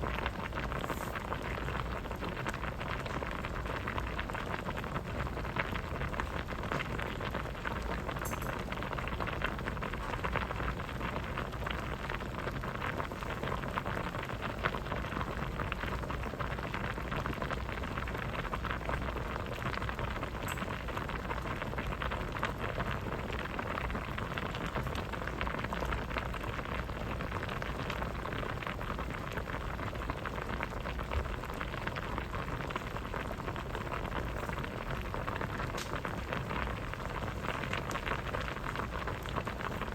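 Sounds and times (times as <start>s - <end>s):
soup boiling in a pot: 0.0s - 39.9s.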